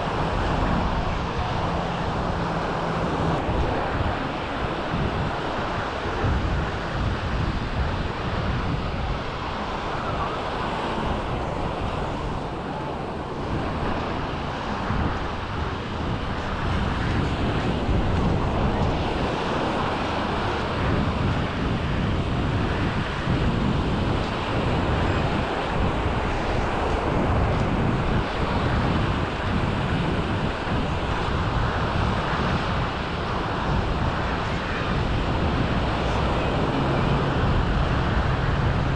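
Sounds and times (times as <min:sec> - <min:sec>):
sea surf rushing: 0:00.0 - 0:38.9
wind buffeting microphone: 0:00.0 - 0:38.9.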